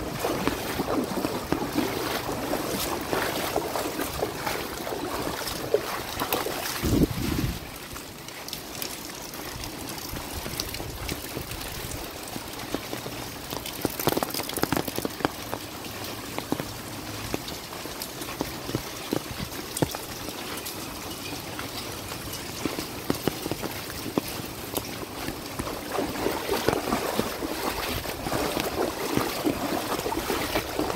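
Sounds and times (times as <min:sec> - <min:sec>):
rain falling: 0:00.0 - 0:30.9
water drips and splashes: 0:00.0 - 0:30.9
water running and trickling: 0:00.0 - 0:30.9.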